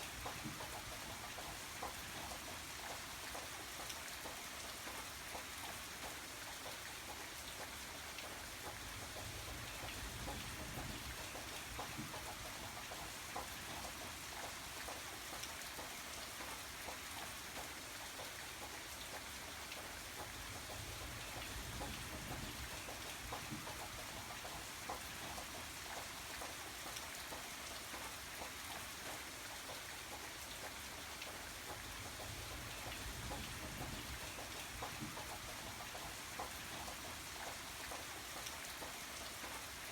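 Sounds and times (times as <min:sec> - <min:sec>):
rain drops pattering on a surface: 0:00.0 - 0:39.9.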